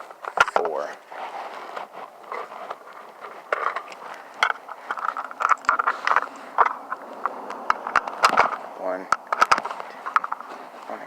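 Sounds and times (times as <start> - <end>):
scraping and handling noise: 0.0 - 11.0.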